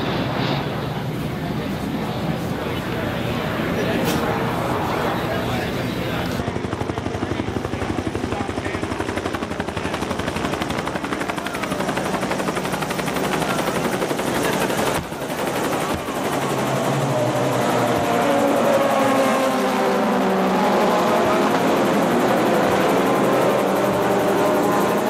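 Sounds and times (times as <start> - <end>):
loud pulsing rotor noise: 0.0 - 25.0.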